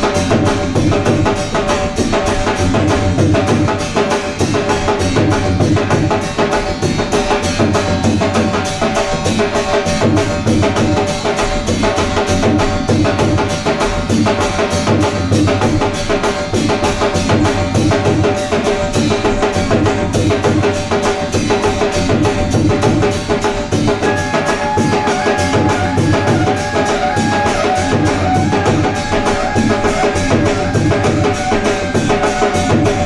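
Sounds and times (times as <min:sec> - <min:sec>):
drums playing fast beat: 0:00.0 - 0:33.0.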